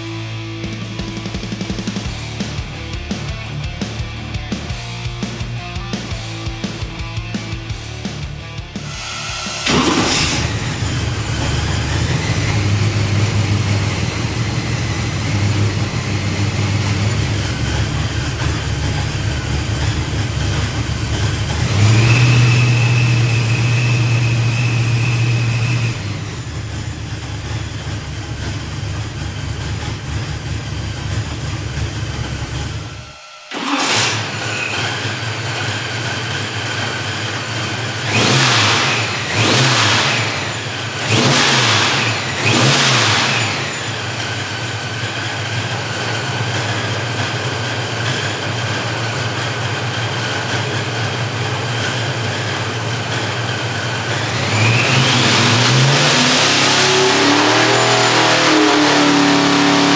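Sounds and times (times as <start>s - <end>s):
engine running on dyno: 0.0s - 59.9s.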